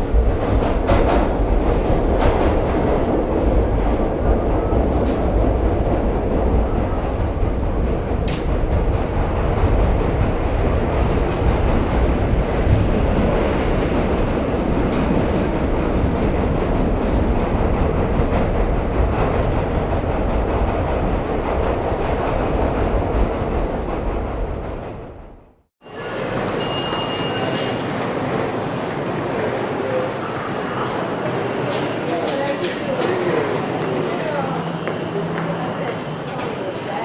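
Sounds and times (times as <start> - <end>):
subway train wheels on rails: 0.0 - 37.0.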